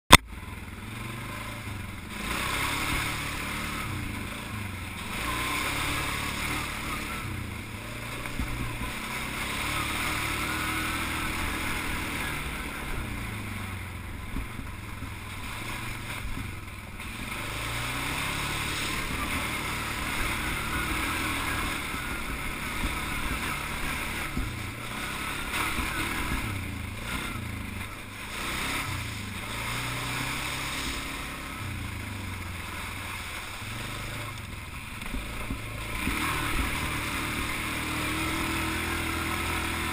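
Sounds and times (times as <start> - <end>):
atv engine revving: 0.1 - 39.9
water and mud splashing: 0.2 - 39.9.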